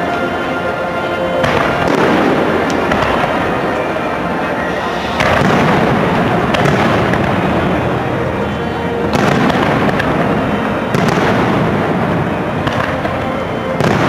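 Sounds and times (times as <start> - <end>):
fireworks booming and crackling: 1.2 - 14.0
sharp firework reports: 1.4 - 13.1.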